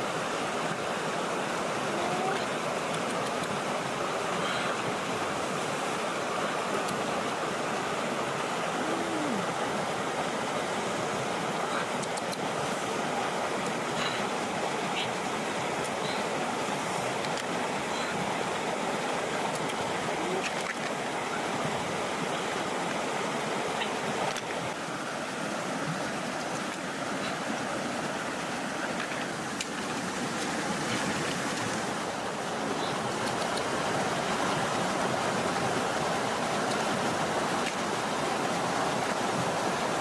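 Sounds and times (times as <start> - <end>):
stream running over rocks: 0.0 - 40.0.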